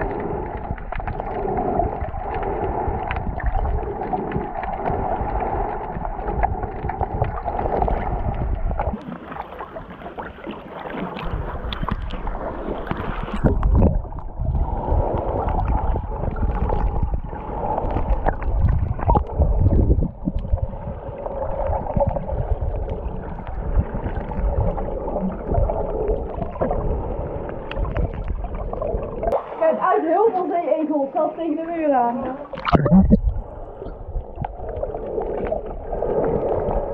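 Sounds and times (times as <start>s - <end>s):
low underwater rumbles: 0.0s - 36.9s
water swirling and gurgling underwater: 0.0s - 36.9s.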